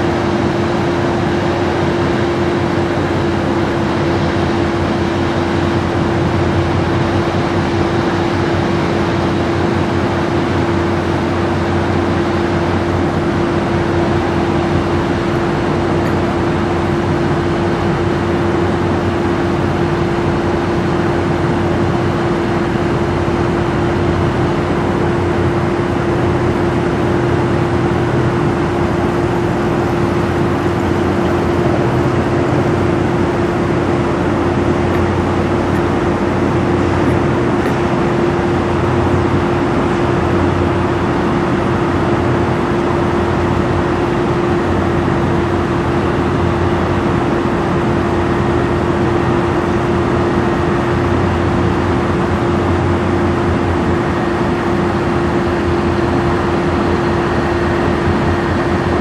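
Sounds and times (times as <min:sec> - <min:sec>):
ship machinery hum: 0:00.0 - 0:59.0.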